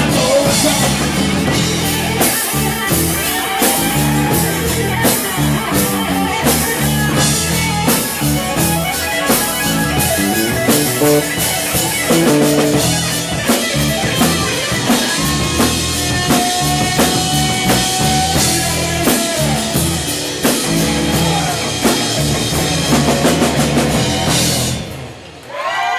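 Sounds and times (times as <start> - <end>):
drum kit steady beat: 0.0 - 25.3
electric guitars: 0.0 - 25.4.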